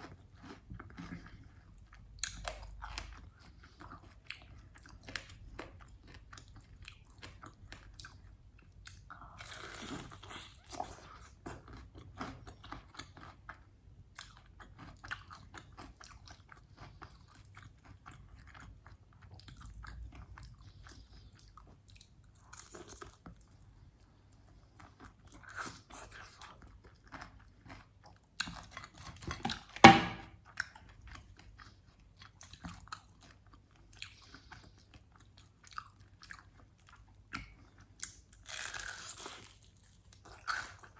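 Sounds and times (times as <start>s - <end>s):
chewing crunchy fried chicken: 0.0s - 40.9s.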